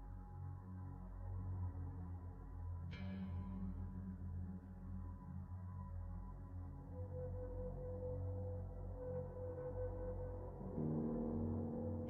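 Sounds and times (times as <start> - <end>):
ambient music with gong-like drones: 0.0 - 12.0.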